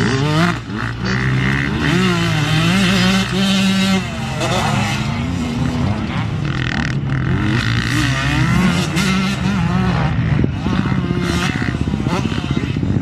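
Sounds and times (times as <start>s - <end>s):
dirt bike engines revving: 0.0s - 13.0s
noisy rush: 0.0s - 13.0s.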